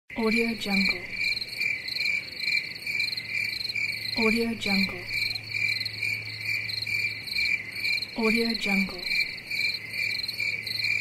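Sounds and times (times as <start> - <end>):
crickets chirping: 0.1 - 11.0.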